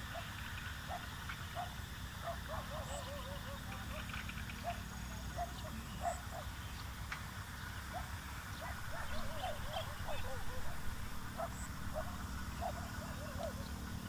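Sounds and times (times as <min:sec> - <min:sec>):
repeated animal calls: 0:00.0 - 0:06.9, 0:07.8 - 0:14.0.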